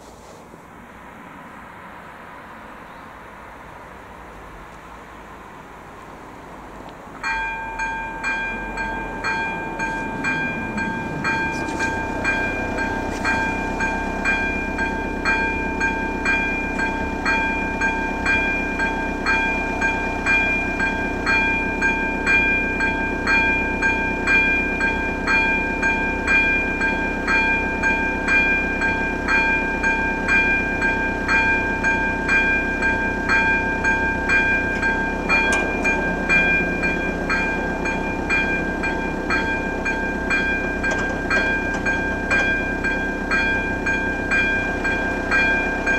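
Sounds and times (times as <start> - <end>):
level crossing bell ringing: 7.2 - 45.9.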